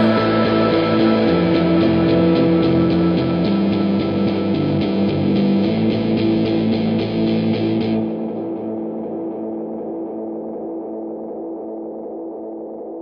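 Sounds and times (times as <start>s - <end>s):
instrumental rock music with guitar: 0.0s - 10.5s.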